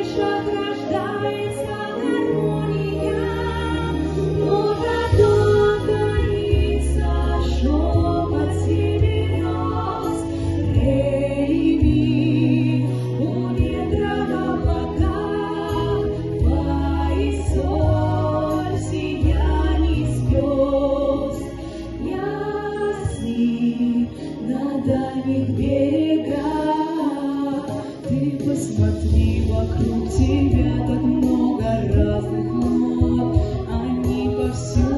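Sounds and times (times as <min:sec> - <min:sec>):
choir singing: 0:00.0 - 0:28.8
instrumental backing with bass: 0:00.0 - 0:34.9.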